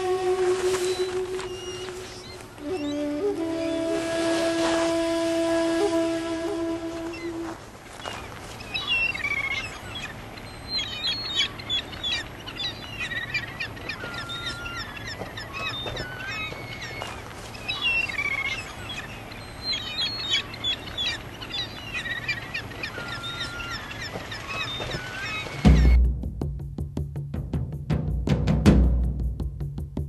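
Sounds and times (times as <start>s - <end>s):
flock of birds chirping: 0.0s - 26.0s.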